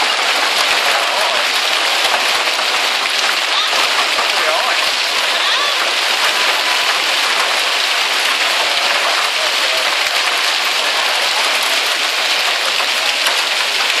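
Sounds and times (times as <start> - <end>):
hailstones knocking on cars: 0.0 - 14.0
heavy rain hiss: 0.0 - 14.0.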